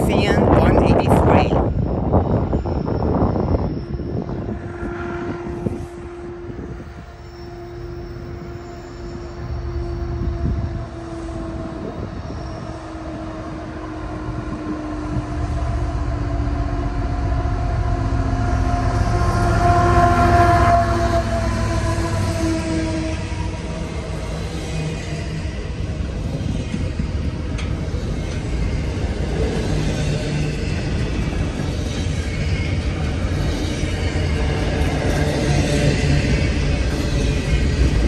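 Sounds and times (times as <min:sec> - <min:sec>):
locomotive engine rumble: 0:00.0 - 0:38.0.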